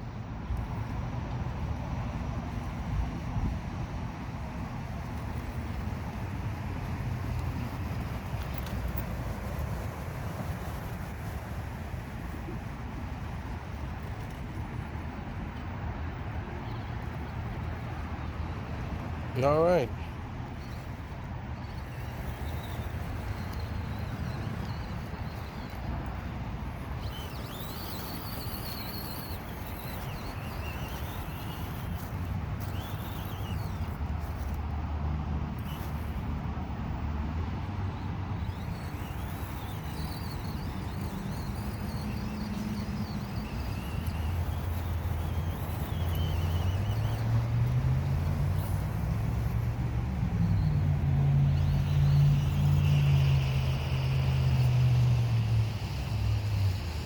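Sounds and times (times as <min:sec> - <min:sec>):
engine hum: 0:00.0 - 0:57.0
traffic rumble: 0:00.0 - 0:57.0.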